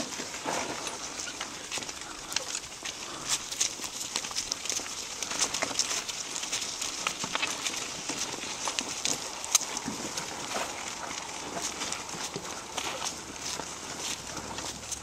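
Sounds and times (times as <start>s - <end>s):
harness and cart rattling: 0.0s - 15.0s
pony hoofbeats on dirt: 0.0s - 15.0s.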